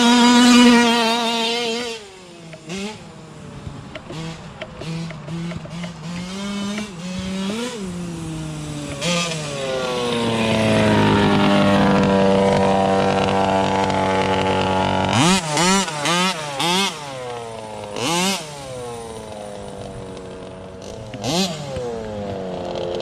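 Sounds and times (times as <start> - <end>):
two-stroke engine revving: 0.0 - 23.0.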